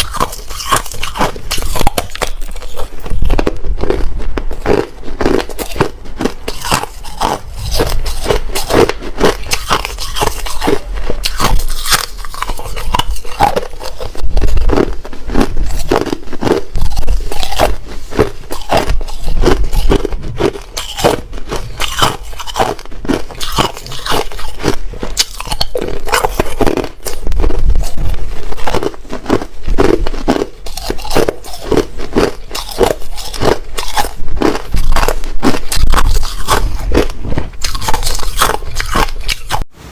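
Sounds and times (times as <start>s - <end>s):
ice being chewed: 0.0s - 39.7s.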